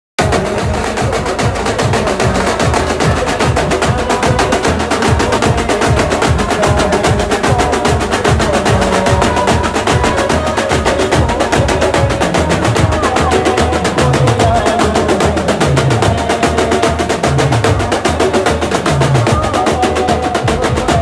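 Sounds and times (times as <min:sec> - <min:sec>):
fast drum strikes: 0:00.2 - 0:21.0
pitched melody line: 0:00.2 - 0:21.0.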